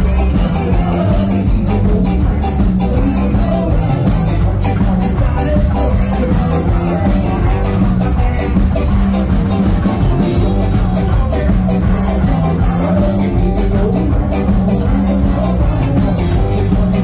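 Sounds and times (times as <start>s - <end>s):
drum kit beat: 0.0s - 17.0s
electric bass: 0.0s - 17.0s
electric guitar: 0.0s - 17.0s.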